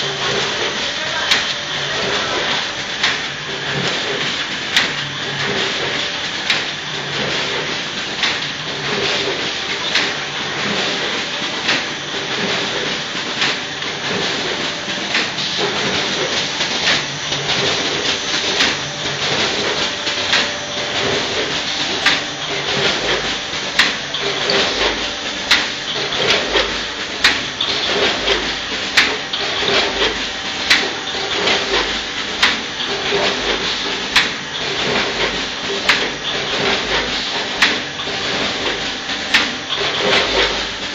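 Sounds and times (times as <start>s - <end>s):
machine clatter: 0.0s - 40.9s
sharp machine clack: 0.0s - 40.9s.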